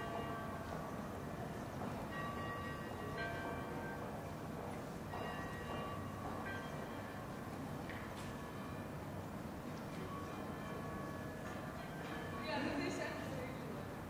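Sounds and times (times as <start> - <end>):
church bells ringing: 0.0 - 13.8
street ambience hum: 0.0 - 14.0.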